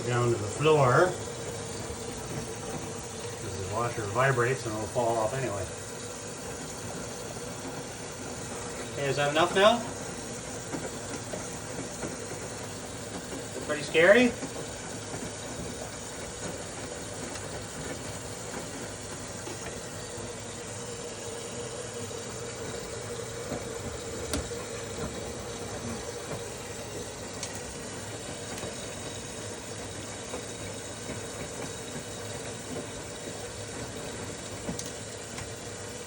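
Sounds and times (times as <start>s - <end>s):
water rushing into washing machine: 0.0s - 36.0s.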